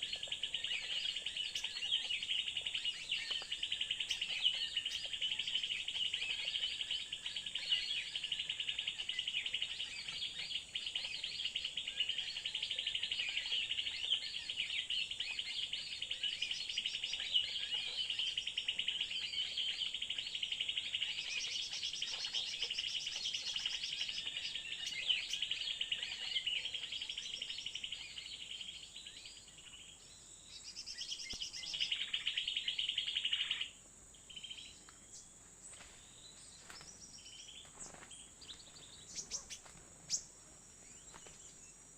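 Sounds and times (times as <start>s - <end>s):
birds chattering trills: 0.0s - 41.9s.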